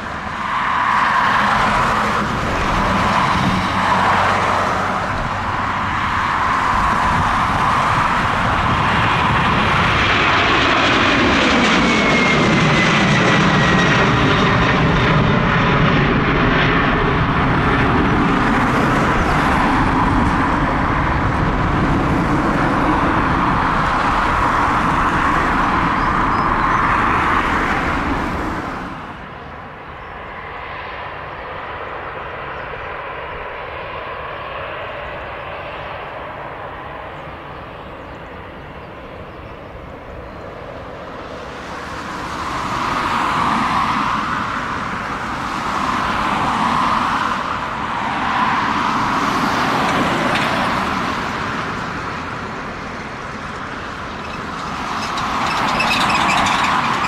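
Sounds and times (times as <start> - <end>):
airport ground noise: 0.0 - 57.0
jet engine roar with whine: 0.0 - 57.0.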